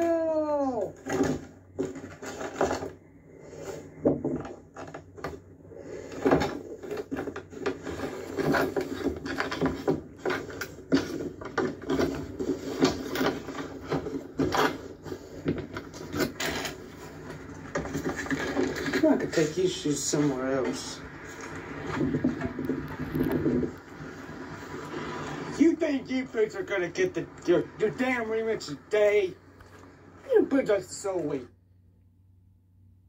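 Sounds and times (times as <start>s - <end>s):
objects knocking and rubbing: 0.8s - 28.9s.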